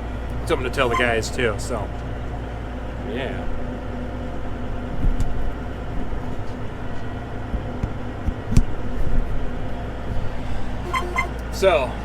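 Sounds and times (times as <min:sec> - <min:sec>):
tractor engine drone in cab: 0:00.0 - 0:12.0.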